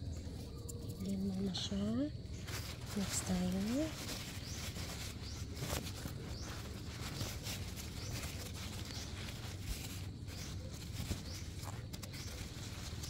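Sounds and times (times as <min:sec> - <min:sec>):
paper towel crinkling: 0:00.2 - 0:13.0.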